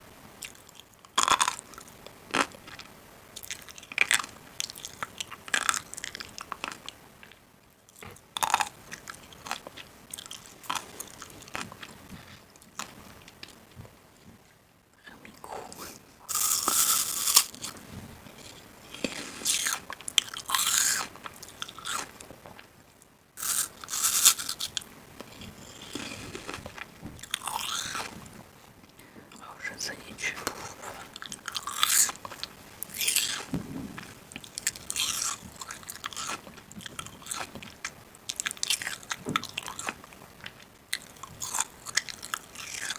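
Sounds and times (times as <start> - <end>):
crisp food crunching: 0.4 - 14.3, 15.3 - 42.9.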